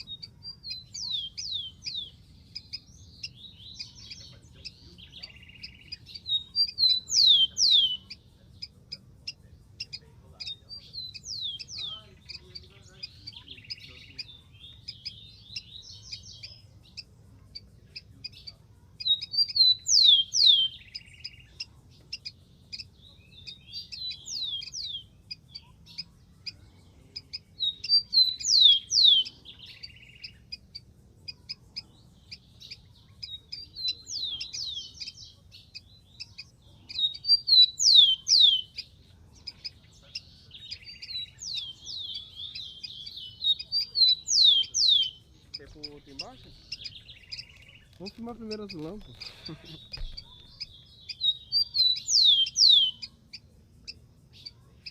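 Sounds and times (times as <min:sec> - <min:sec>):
sparrow whistled song: 0:00.0 - 0:54.9.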